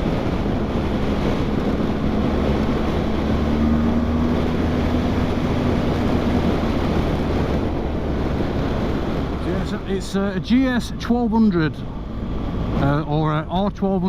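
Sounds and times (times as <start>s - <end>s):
wind rushing over helmet microphone: 0.0s - 14.0s.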